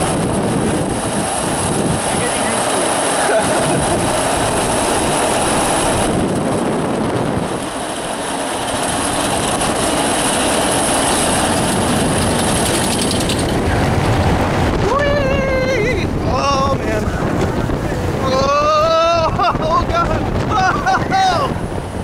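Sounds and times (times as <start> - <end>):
roller coaster rumbling on steel track: 0.0 - 22.0.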